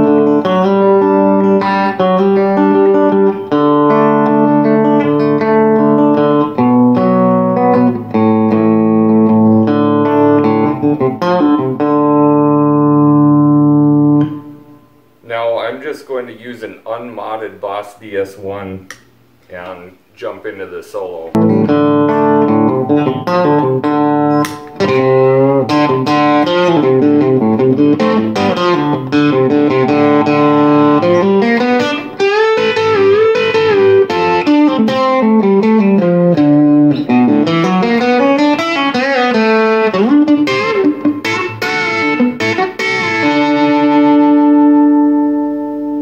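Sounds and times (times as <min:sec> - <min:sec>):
distorted electric guitar solo: 0:00.0 - 0:15.1, 0:21.3 - 0:46.0.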